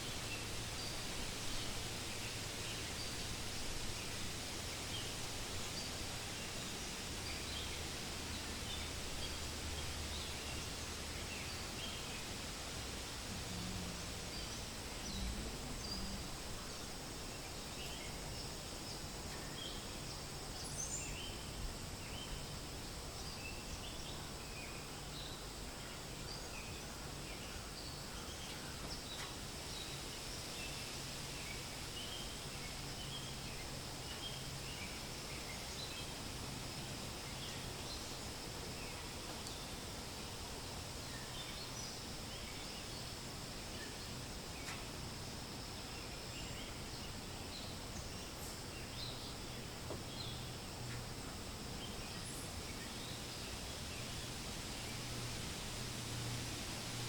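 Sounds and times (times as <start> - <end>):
wind in leaves: 0.0 - 57.0.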